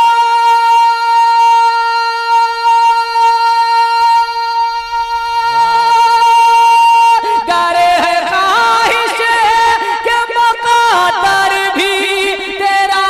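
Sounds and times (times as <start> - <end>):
man singing through loudspeaker: 0.0 - 13.0.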